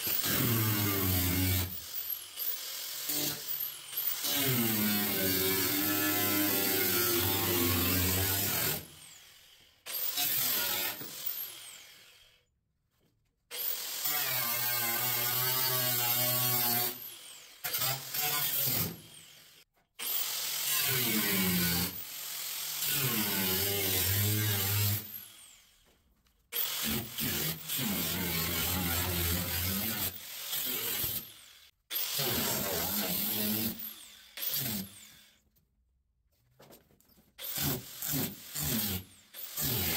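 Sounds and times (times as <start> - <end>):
power tool cutting sheet metal: 0.0 - 12.4, 13.6 - 25.7, 26.6 - 35.4, 37.4 - 39.9.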